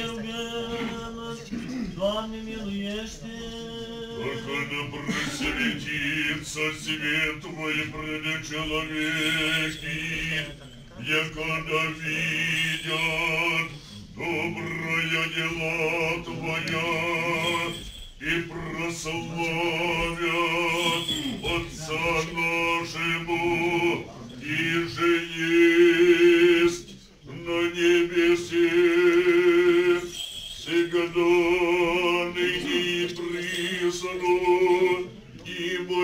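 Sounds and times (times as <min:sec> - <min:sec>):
choir chanting: 0:03.0 - 0:36.0.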